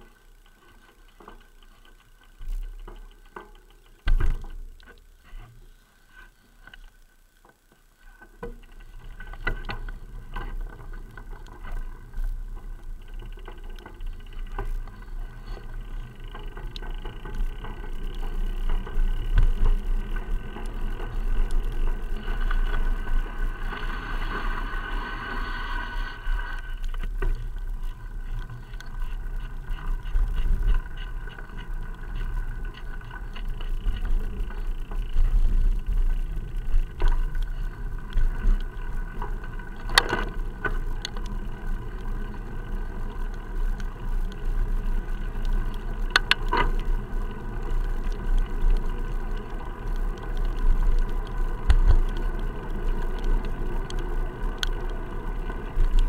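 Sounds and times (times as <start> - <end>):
muffled low riding rumble: 0.0 - 56.0.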